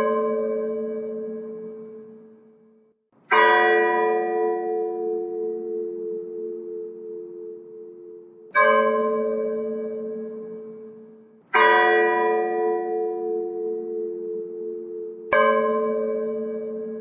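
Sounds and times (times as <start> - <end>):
church bell tolling: 0.0 - 17.0.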